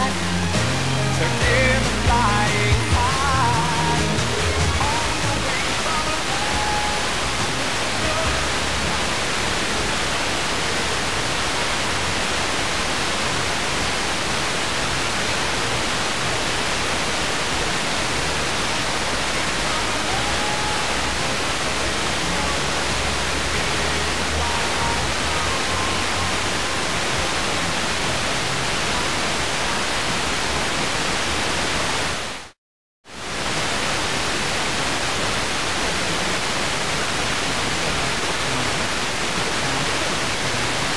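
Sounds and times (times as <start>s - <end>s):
faint radio broadcast: 0.0s - 30.9s, 35.3s - 40.9s
radio static hiss: 0.0s - 32.6s, 33.2s - 40.9s.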